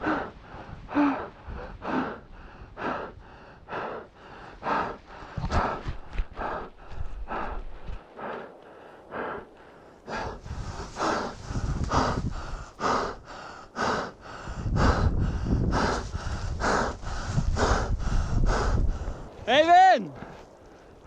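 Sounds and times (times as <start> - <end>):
person panting heavily: 0.0 - 19.3.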